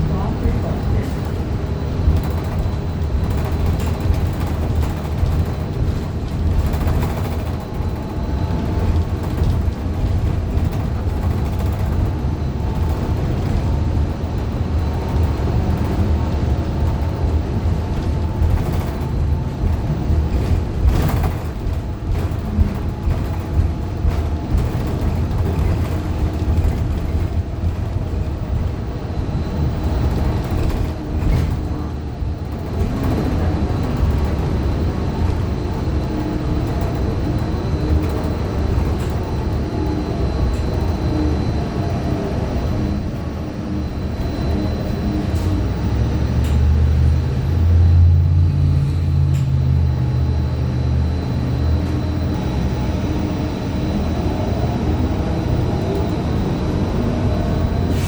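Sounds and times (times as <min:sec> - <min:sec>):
bus engine rumble: 0:00.0 - 0:58.0
faint whining tones: 0:00.0 - 0:58.0.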